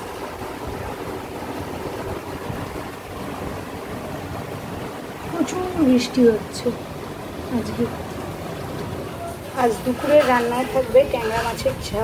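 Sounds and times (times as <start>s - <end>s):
torrential rain pouring: 0.0s - 12.0s.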